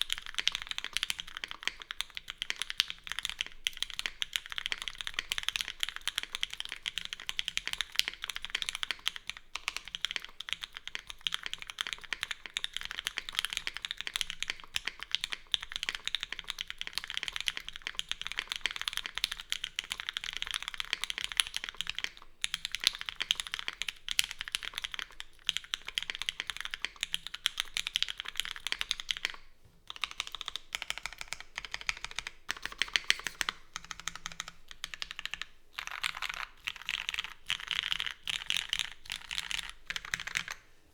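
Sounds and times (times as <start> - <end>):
fast typing on mechanical keyboard: 0.0 - 40.6.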